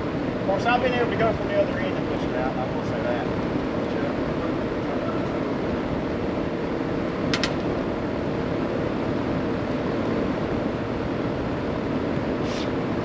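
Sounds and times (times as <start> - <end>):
steady machine noise: 0.0 - 13.0.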